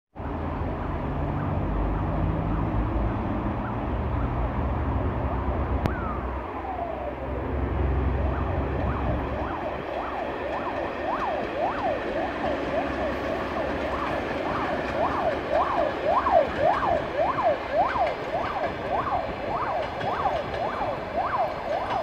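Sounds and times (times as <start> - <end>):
train rumbling past: 0.2 - 22.0.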